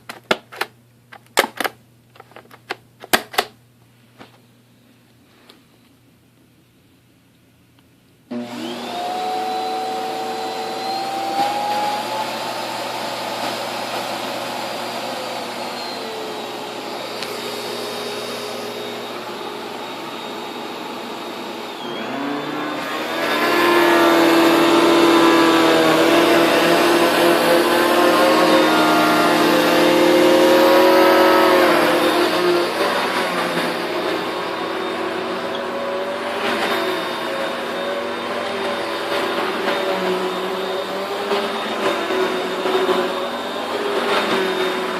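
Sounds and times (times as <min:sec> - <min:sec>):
vacuum cleaner motor running: 0:08.3 - 0:44.9.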